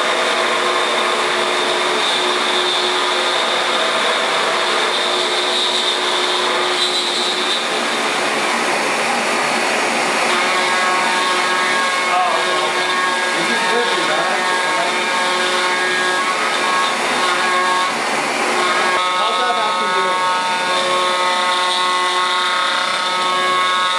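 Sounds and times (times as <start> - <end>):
milling machine noise: 0.0 - 23.9.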